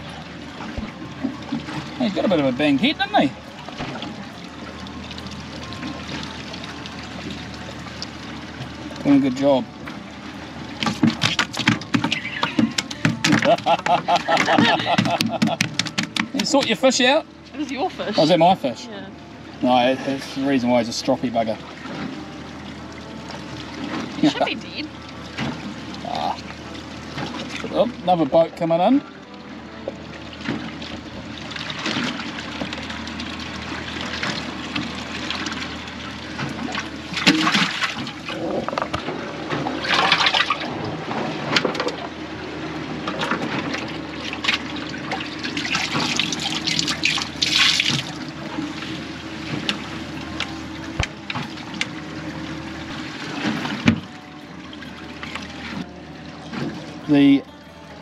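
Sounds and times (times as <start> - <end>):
water running and splashing: 0.0 - 57.4
steady low hum: 0.0 - 58.0.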